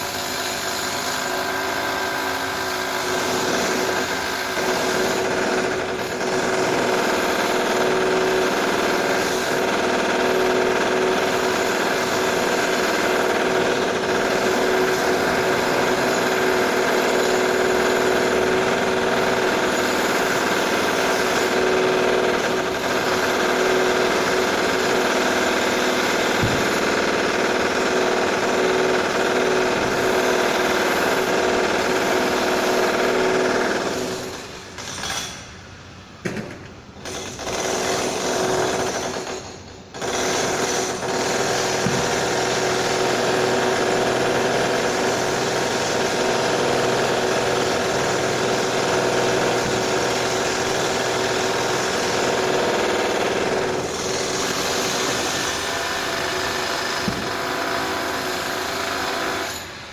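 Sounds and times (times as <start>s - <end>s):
power drill running: 0.0s - 35.3s, 37.0s - 59.9s.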